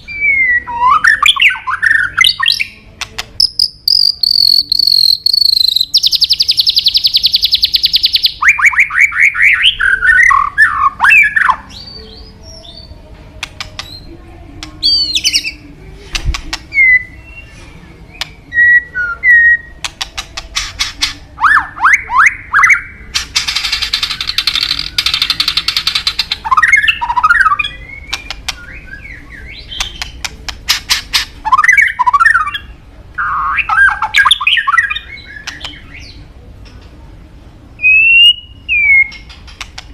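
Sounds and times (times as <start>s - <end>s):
bird singing varied song: 0.0s - 36.8s, 37.8s - 39.9s.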